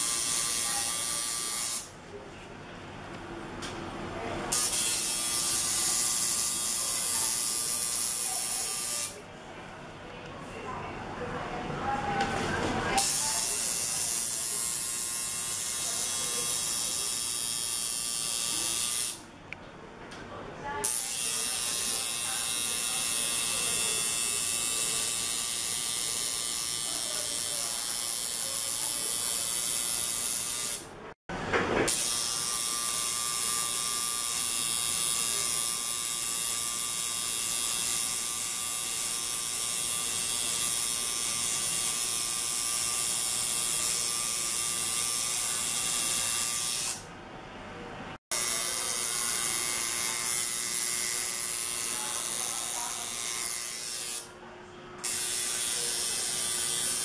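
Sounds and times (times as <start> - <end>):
tattoo machine buzzing: 0.0 - 1.9, 4.5 - 9.2, 13.0 - 19.3, 20.8 - 30.9, 31.9 - 47.1, 48.3 - 54.3, 55.0 - 57.0.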